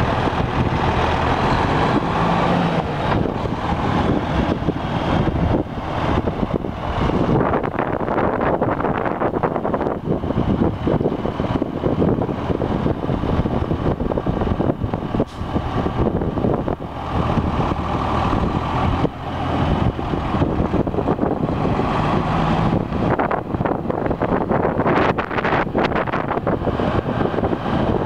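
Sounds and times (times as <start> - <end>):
diesel truck engine running: 0.0 - 28.0
wind buffeting microphone: 0.0 - 28.0.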